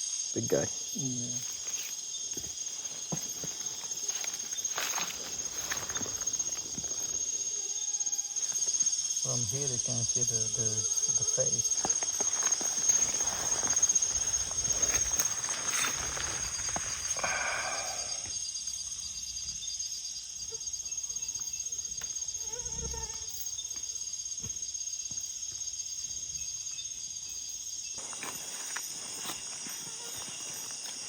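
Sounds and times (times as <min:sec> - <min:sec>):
crickets and katydids trilling: 0:00.0 - 0:31.0.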